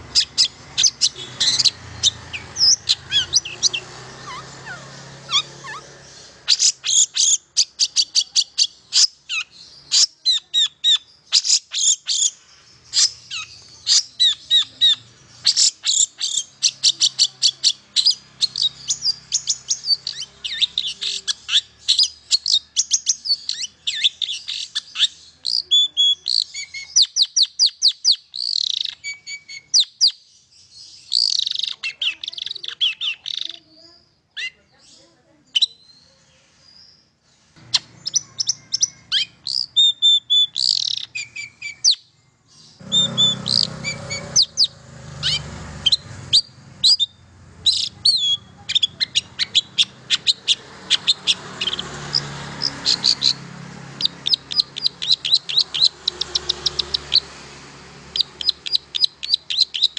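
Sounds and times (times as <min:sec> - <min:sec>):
bird chirping and whistling: 0:00.0 - 0:30.2, 0:31.0 - 0:33.6, 0:37.7 - 0:42.1, 0:42.7 - 0:53.4, 0:54.0 - 0:57.3, 0:58.1 - 0:59.9.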